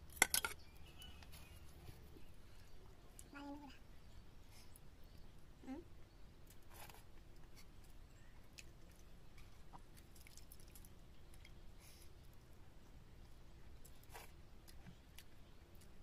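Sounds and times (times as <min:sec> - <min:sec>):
low room noise: 0:00.0 - 0:16.0.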